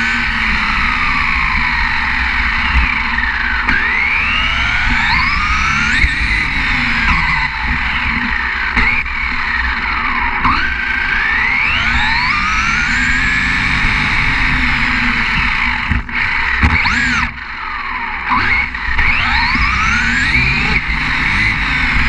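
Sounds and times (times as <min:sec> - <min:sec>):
toy truck motor whining: 0:00.0 - 0:22.0
tyres rumbling on asphalt: 0:00.0 - 0:22.0.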